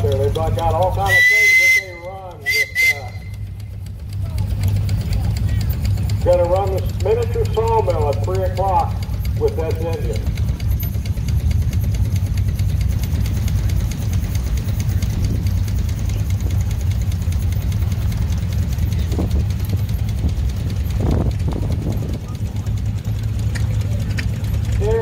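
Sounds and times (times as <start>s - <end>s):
fast even ticking: 0.0s - 25.0s
traction engine running: 0.0s - 25.0s.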